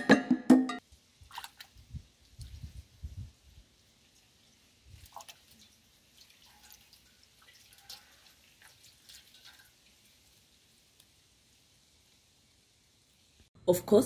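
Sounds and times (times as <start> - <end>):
water splashing in metal basin: 0.8 - 13.4.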